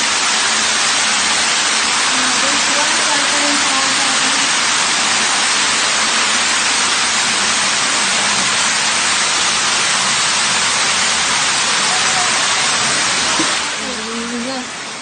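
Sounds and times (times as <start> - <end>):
floodwater pouring down: 0.0 - 15.0.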